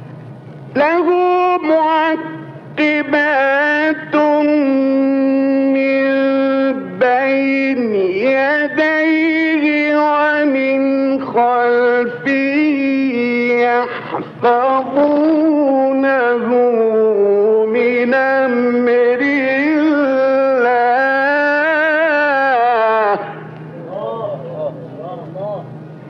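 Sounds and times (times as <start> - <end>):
man chanting: 0.8 - 24.5.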